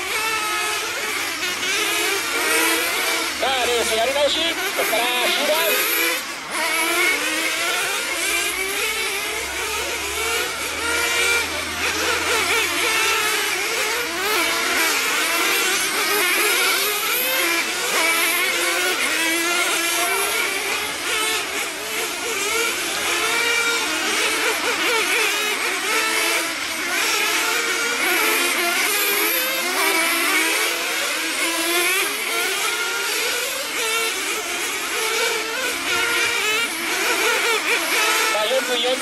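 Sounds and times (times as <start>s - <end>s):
radio-controlled car engines buzzing: 0.0s - 39.0s.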